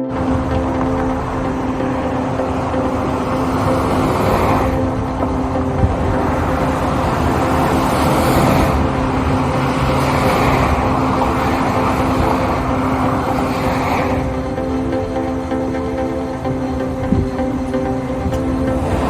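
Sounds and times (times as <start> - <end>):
constant hum: 0.0 - 19.0
engine and road rumble: 0.0 - 19.0.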